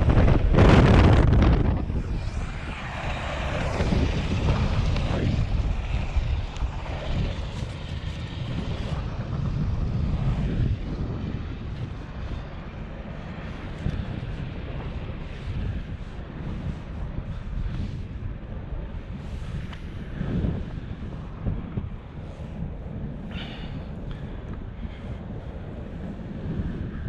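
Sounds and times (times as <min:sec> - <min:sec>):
helicopter running: 0:00.0 - 0:27.0
wind buffeting microphone: 0:00.0 - 0:27.0.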